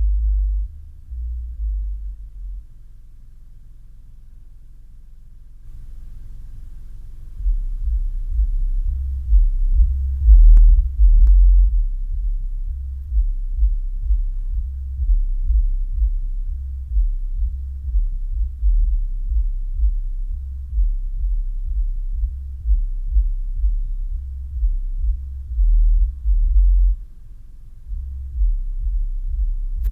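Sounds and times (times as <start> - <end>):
subwoofer playing deep bass: 0.0 - 29.9.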